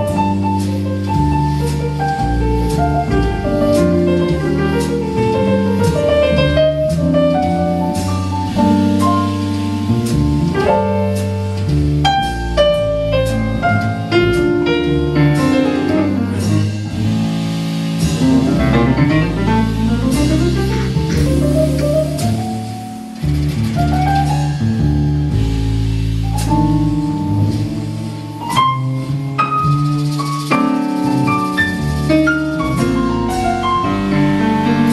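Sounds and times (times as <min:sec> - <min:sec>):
bass: 0:00.0 - 0:34.9
drum kit: 0:00.0 - 0:34.9.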